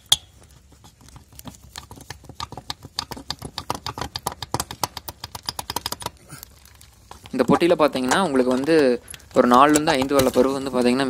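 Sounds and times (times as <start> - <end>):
quick light clicks and rattles: 0.0 - 11.0.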